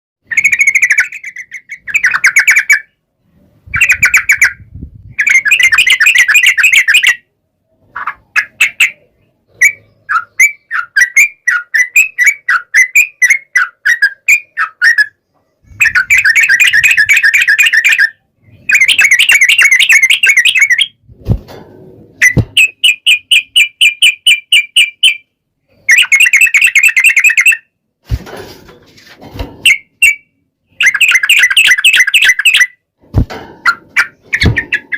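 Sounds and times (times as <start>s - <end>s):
bird chattering song: 0.2s - 3.0s, 3.7s - 7.3s, 7.9s - 21.0s, 22.2s - 27.7s, 29.6s - 32.8s, 33.7s - 34.9s.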